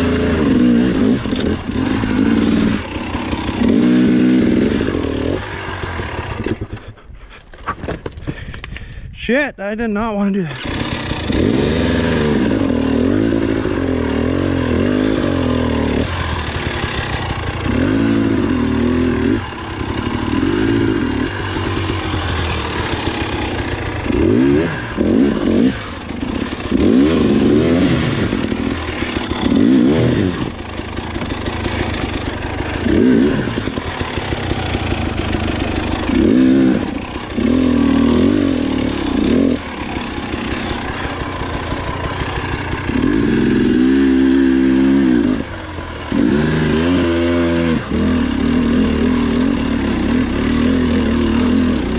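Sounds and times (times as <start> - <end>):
dirt bike engine revving: 0.0 - 7.0, 10.2 - 51.9.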